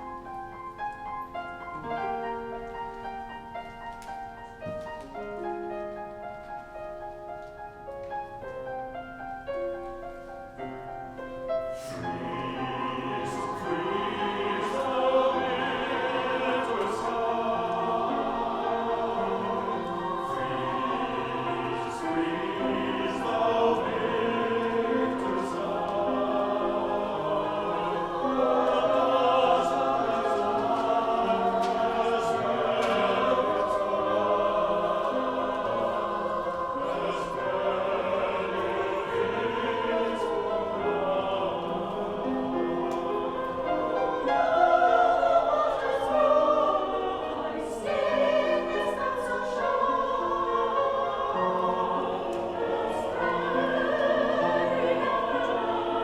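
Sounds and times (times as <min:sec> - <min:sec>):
choir singing: 0:00.0 - 0:07.3, 0:09.6 - 0:56.0
piano accompaniment: 0:00.0 - 0:56.0.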